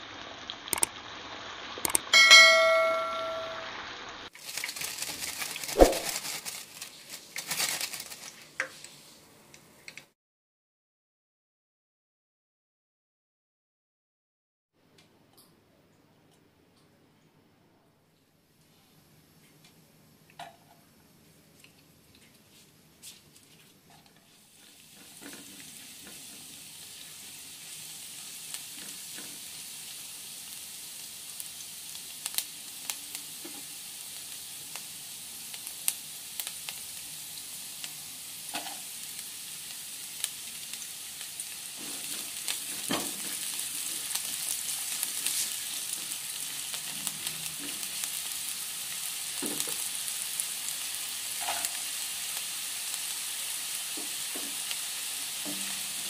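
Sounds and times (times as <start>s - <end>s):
garlic and onion sizzling in oil: 0.0s - 10.0s, 20.4s - 56.0s.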